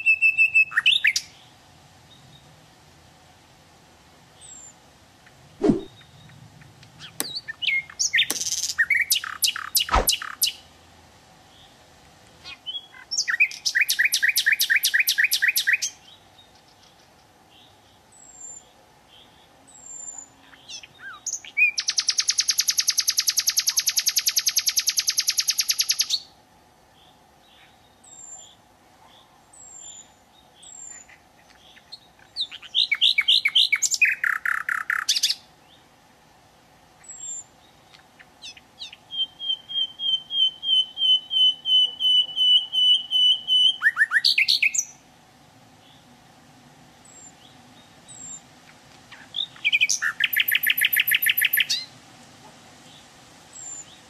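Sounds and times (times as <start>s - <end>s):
nightingale singing: 0.0s - 1.5s, 4.4s - 10.7s, 12.5s - 26.3s, 26.9s - 35.9s, 37.0s - 45.1s, 47.0s - 51.9s, 52.8s - 54.0s.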